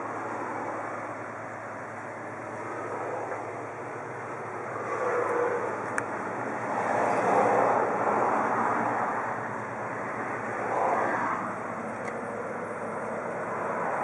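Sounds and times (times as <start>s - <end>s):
motor vehicle engine rumble: 0.0s - 14.0s.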